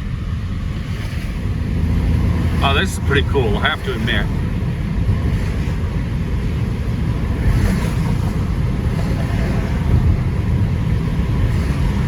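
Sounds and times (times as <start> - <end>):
tyres and engine rumble: 0.0 - 12.0.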